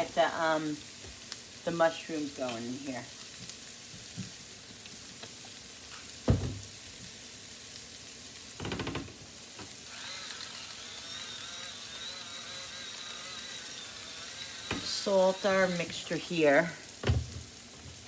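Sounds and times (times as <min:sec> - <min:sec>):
onions sizzling in a frying pan: 0:00.0 - 0:18.0.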